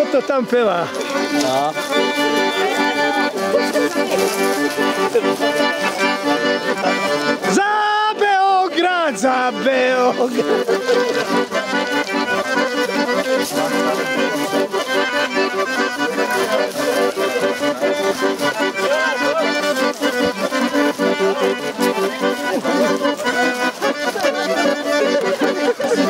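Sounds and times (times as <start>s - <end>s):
accordion playing folk dance tune: 0.0s - 26.0s.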